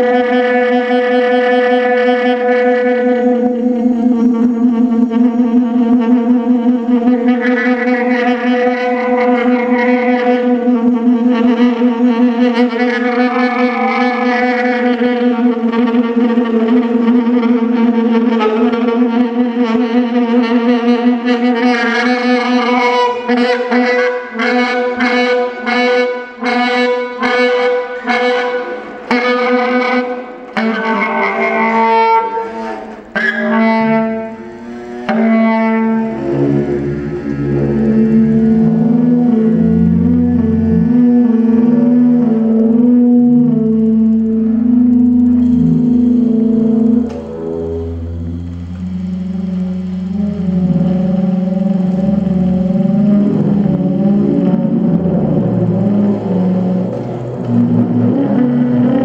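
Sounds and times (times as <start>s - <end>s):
saxophone improvising: 0.0s - 59.0s.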